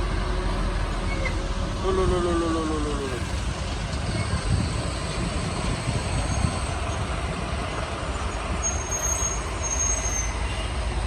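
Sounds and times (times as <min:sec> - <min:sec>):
truck diesel engine labouring: 0:00.0 - 0:11.0.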